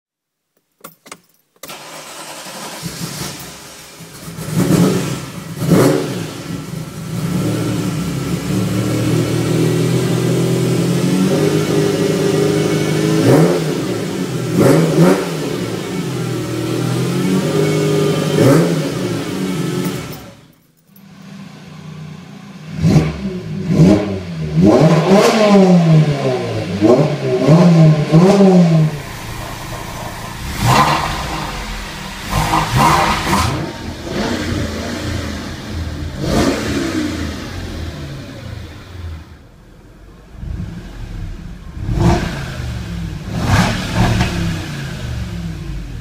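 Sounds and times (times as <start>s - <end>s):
car engine starting and revving: 1.6s - 46.0s.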